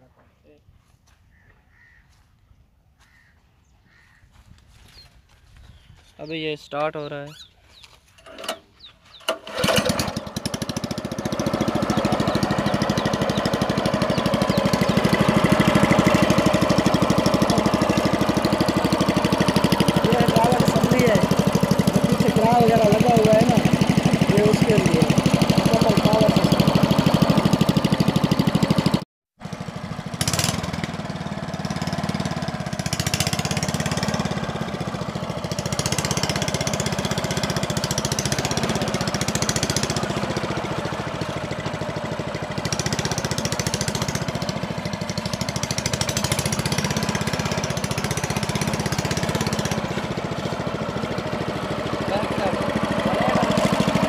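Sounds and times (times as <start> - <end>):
small single-cylinder engine chugging: 8.2 - 54.0.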